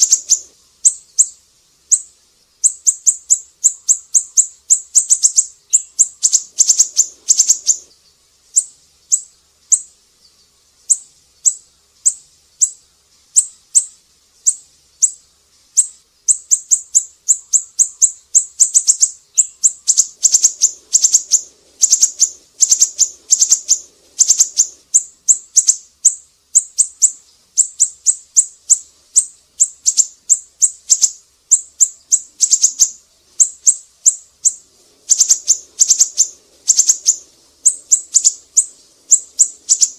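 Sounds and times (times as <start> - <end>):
bird chirping high and sharp: 0.0 - 9.9, 10.9 - 15.2, 15.8 - 39.9.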